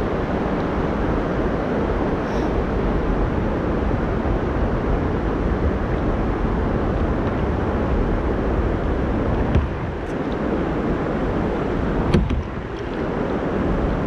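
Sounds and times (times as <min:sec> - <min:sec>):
choppy river water: 0:00.0 - 0:14.0
wind buffeting the microphone: 0:00.0 - 0:14.0.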